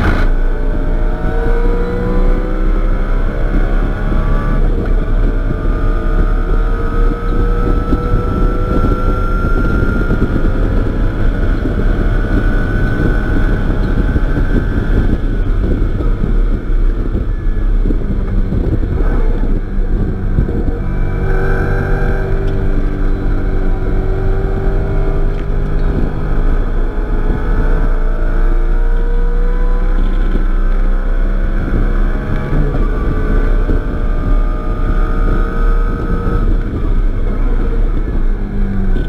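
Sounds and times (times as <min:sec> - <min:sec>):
car engine at full throttle: 0:00.0 - 0:39.0
wind and tyre rumble: 0:00.0 - 0:39.0.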